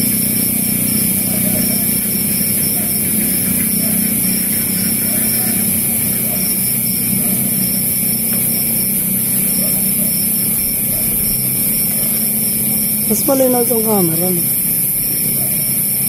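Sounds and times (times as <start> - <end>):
high pulsing chirp: 0.0 - 15.2.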